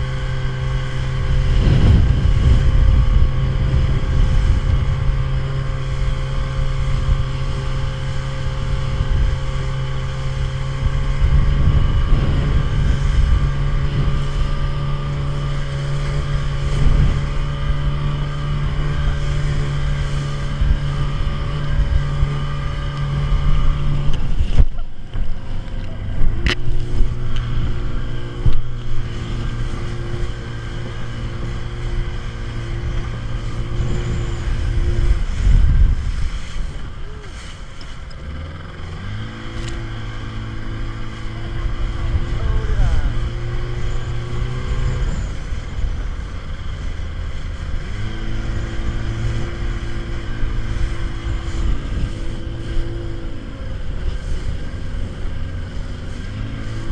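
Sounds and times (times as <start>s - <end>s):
motorboat engine: 0.0s - 56.9s
wind and water rushing: 0.0s - 56.9s.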